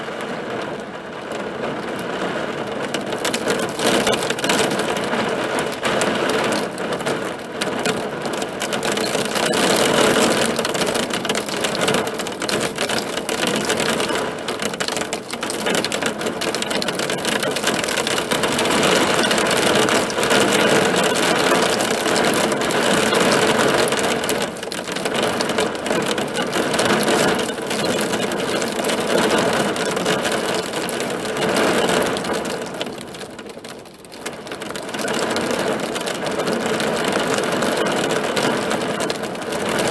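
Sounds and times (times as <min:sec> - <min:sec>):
hailstones on a hard surface: 0:00.0 - 0:39.9.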